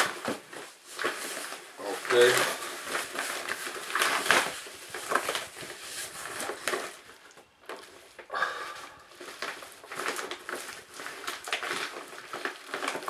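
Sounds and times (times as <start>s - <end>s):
paper and plastic rustling: 0.0s - 13.0s.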